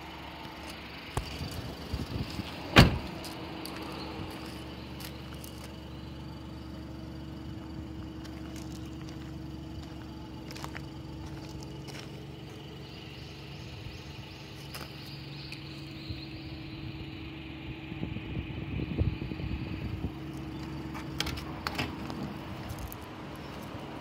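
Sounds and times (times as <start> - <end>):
car engine idling: 0.0 - 24.0
low rumble: 0.2 - 24.0.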